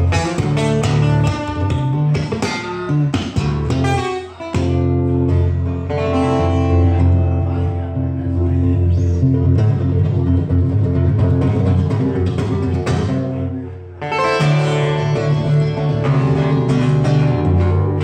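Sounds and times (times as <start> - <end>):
guitar chords strummed: 0.0 - 18.0
low bass notes: 0.0 - 18.0.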